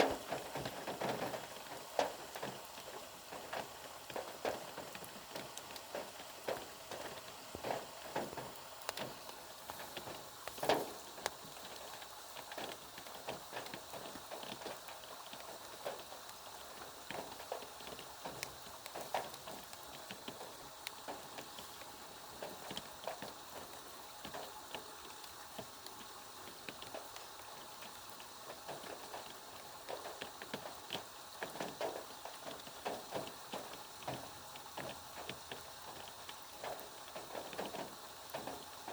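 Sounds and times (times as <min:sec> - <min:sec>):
rain drops tapping and splattering: 0:00.0 - 0:38.9.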